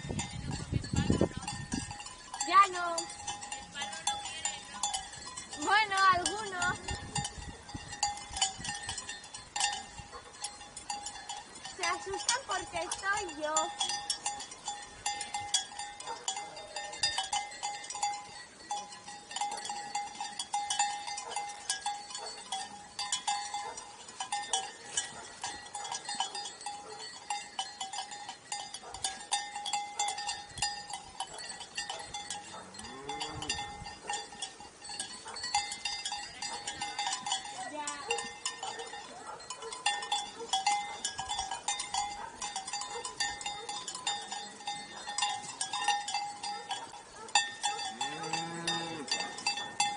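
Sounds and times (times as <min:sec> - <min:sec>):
sheep bells jangling: 0:00.0 - 0:49.9.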